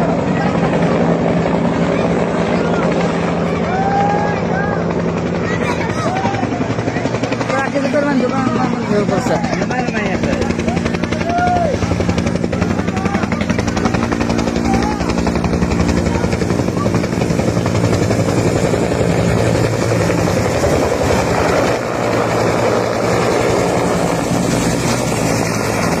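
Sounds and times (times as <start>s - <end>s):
helicopter rotor blades chopping: 0.0s - 26.0s
low turbine hum: 0.0s - 26.0s.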